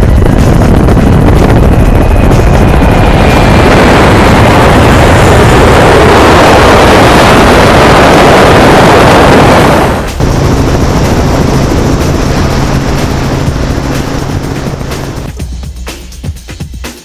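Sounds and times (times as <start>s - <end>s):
engines roaring: 0.0s - 15.3s
rushing wind: 0.0s - 15.4s.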